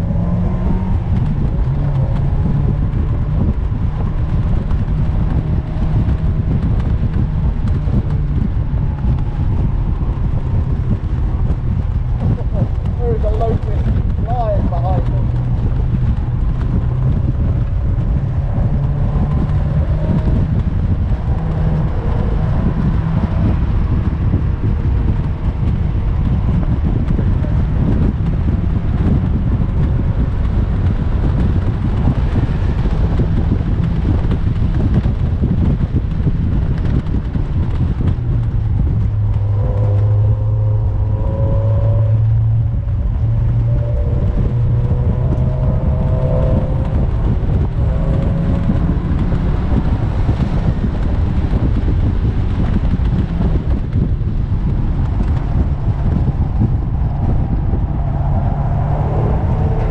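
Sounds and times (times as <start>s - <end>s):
car engine revving: 0.0s - 59.9s
road noise: 0.0s - 59.9s
wind buffeting: 0.0s - 59.9s.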